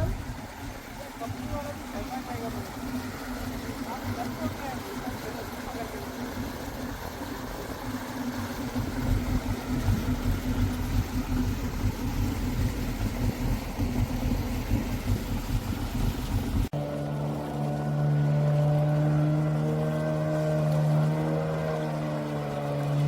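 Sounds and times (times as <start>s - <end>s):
jet ski engine idling: 0.0s - 23.0s.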